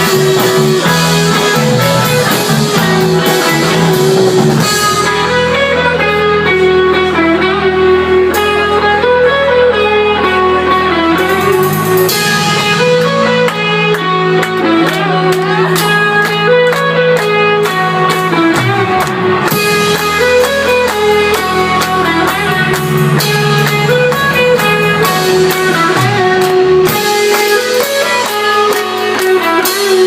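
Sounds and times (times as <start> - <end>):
electric guitar melody: 0.0 - 30.0
sustained bass notes: 0.0 - 30.0.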